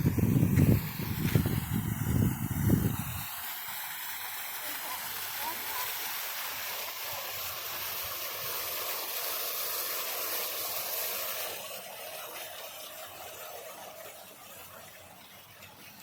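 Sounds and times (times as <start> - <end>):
spraying water hiss: 0.0 - 16.0.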